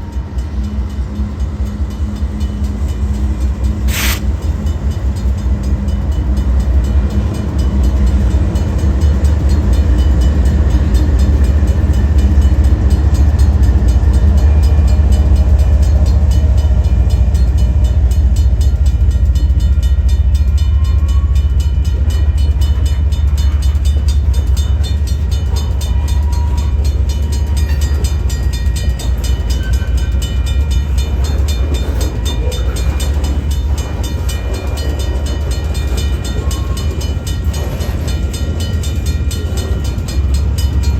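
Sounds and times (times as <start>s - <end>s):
freight train wheels rumbling on rail: 0.0s - 40.9s
train wheels clicking: 0.0s - 40.9s.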